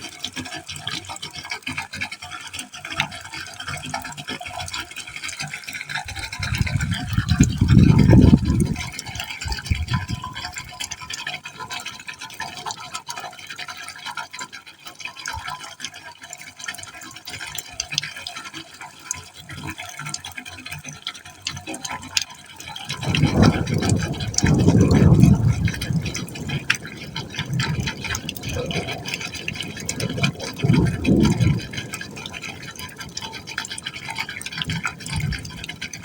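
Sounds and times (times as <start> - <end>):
small drip-like ticks: 0.0 - 36.0
water splashing into pipe hole: 0.0 - 36.0.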